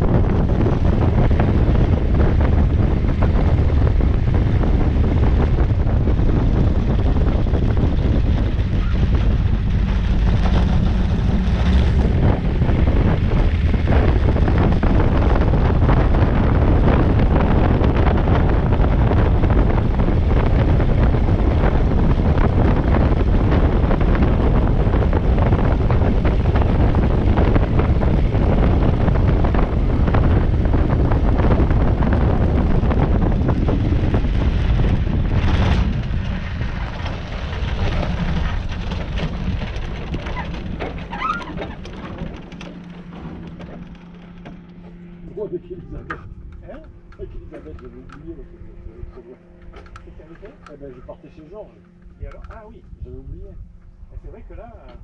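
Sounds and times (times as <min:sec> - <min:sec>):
light aircraft engine and propeller: 0:00.0 - 0:55.0
wind buffeting microphone: 0:00.0 - 0:55.0.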